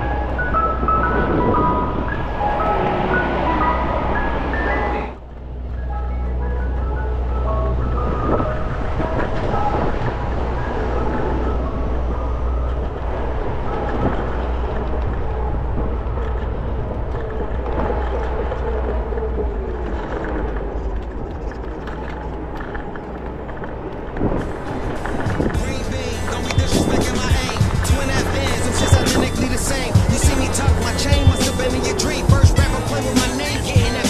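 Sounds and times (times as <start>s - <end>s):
scooter tyres rumbling on concrete: 0.0s - 34.0s
street noise: 0.0s - 34.0s.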